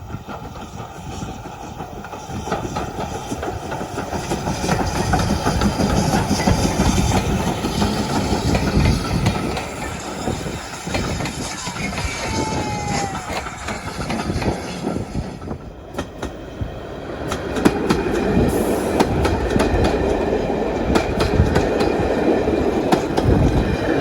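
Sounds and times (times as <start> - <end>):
train wheels clickety-clack: 0.0 - 24.0.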